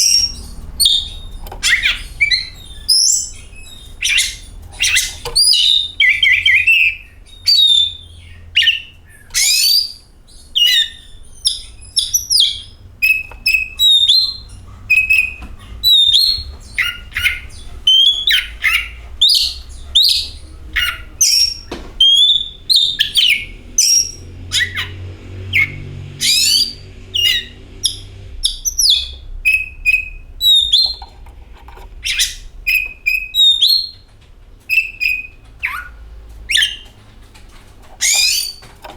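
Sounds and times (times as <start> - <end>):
bird singing: 0.0 - 31.2, 32.0 - 37.0, 38.0 - 38.9.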